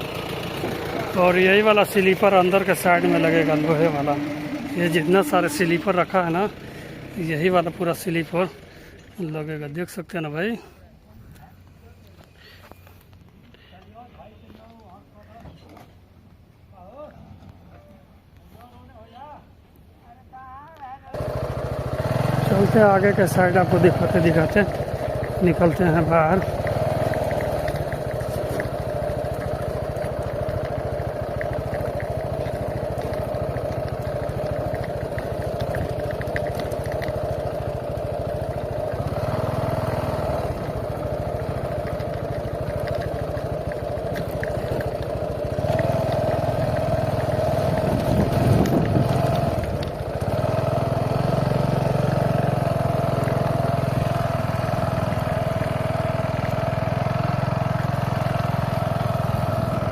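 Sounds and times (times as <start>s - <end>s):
engine running: 0.0s - 10.7s, 21.1s - 59.9s.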